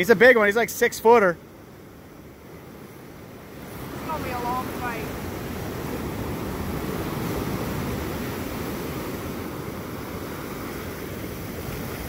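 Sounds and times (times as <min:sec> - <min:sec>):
ocean surf breaking: 0:00.0 - 0:12.0
wind buffeting microphone: 0:01.7 - 0:12.0.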